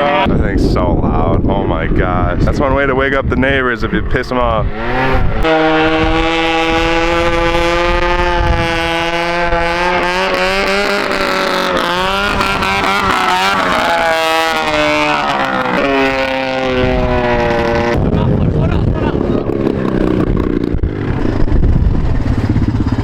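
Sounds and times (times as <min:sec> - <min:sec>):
go-kart engine running loud: 0:00.0 - 0:02.5, 0:03.9 - 0:23.0.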